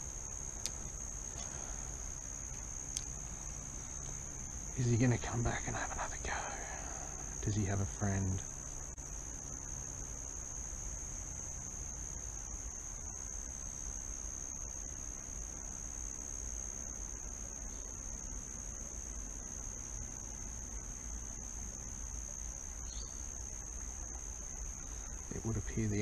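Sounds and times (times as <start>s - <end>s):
insects shrilling in chorus: 0.0s - 26.0s.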